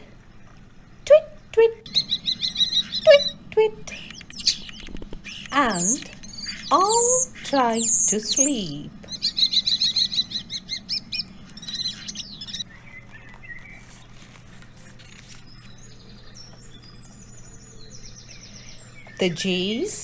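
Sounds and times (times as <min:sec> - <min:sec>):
starlings chittering: 0:00.0 - 0:20.0.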